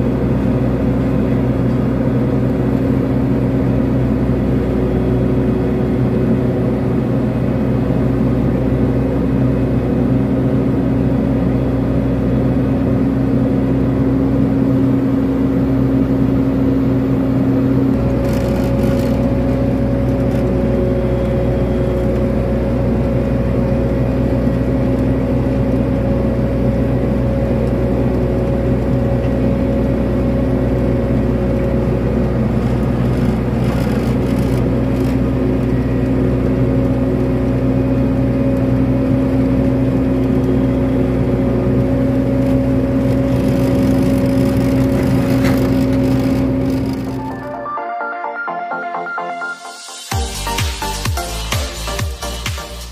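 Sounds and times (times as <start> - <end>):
excavator diesel engine: 0.0 - 47.8.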